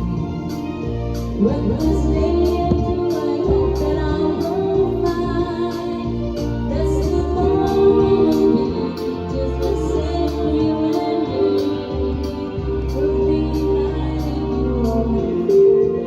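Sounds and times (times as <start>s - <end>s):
karaoke music: 0.0s - 16.0s
person singing: 1.4s - 16.0s.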